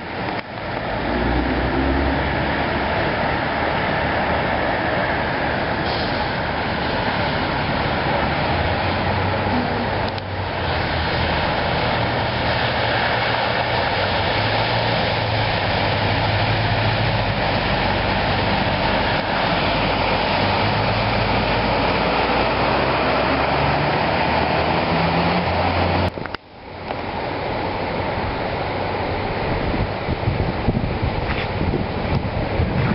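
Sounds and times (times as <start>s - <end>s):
floodwater roaring: 0.0s - 32.9s.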